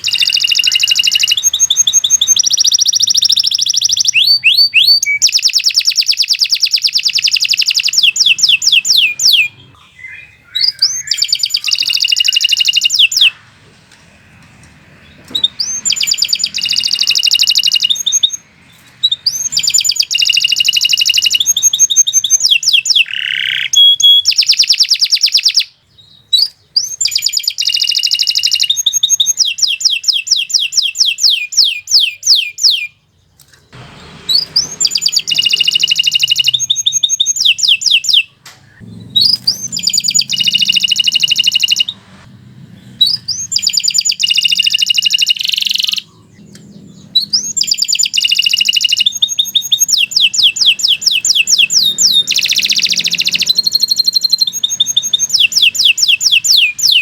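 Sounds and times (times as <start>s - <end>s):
canary singing trills: 0.0s - 13.6s, 14.8s - 57.0s.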